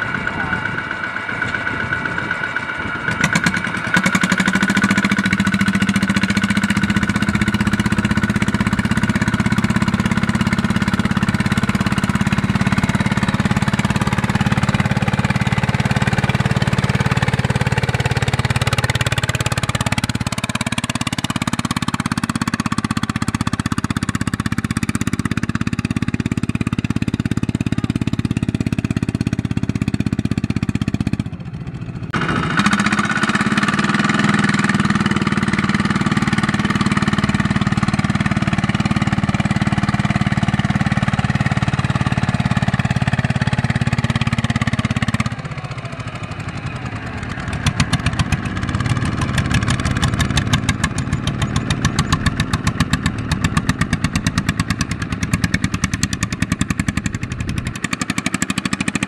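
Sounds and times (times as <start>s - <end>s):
diesel tractor engine under load: 0.0s - 59.0s.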